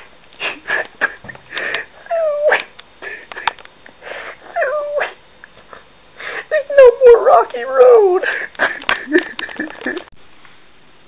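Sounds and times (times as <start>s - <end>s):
young man sobbing: 0.4s - 10.1s.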